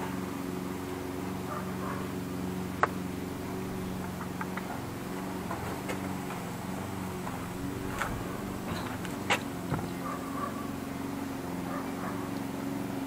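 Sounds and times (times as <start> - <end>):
pump motor humming: 0.0 - 13.0.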